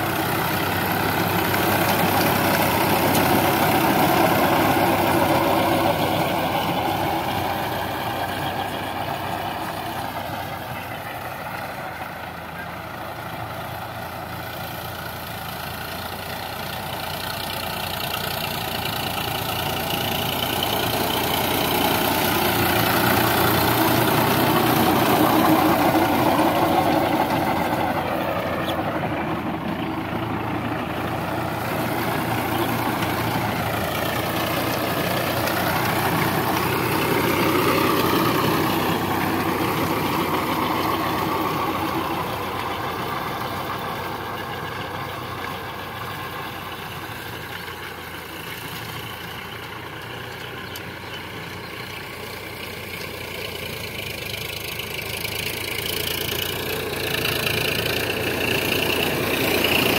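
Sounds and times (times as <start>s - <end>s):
tractor diesel engine working: 0.0s - 59.9s.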